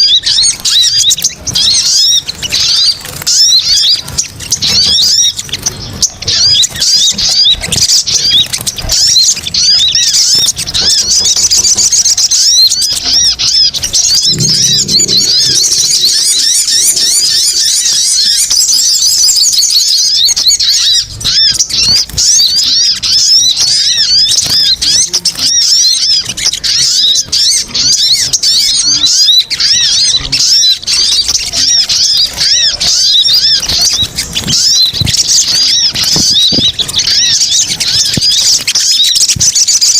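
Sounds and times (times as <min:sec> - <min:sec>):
birds chattering high-pitched: 0:00.0 - 0:39.9.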